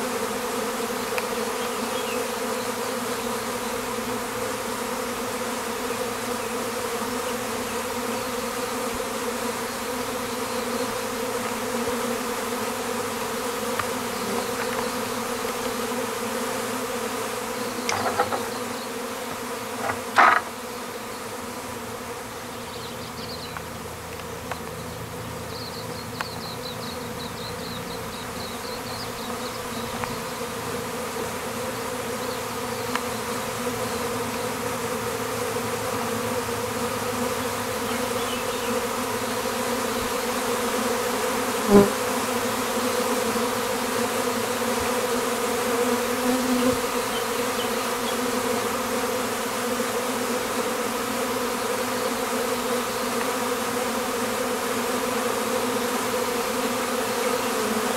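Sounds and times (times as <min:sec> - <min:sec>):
honeybees buzzing: 0:00.0 - 0:57.9.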